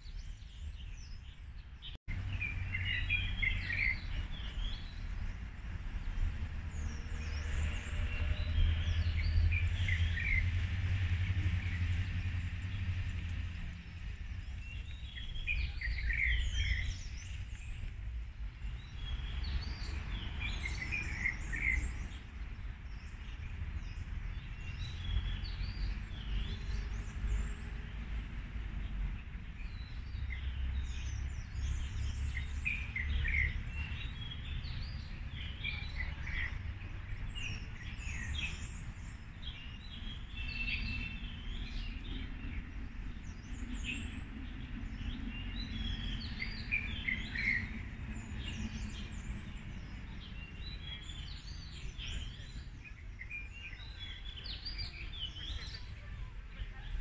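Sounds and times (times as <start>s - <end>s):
birds chirping: 0.0s - 57.0s
steady low rumble: 2.1s - 54.4s.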